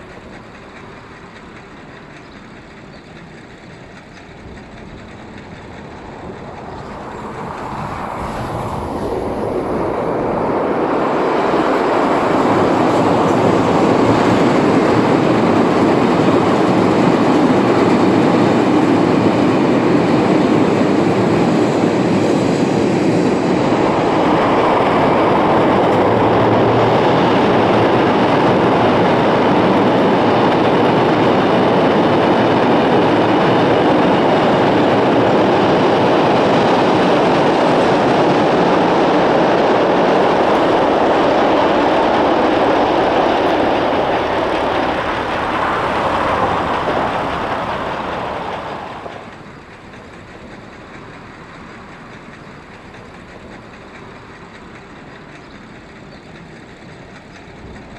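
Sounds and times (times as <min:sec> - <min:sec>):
train passing on rails: 0:00.0 - 0:57.9.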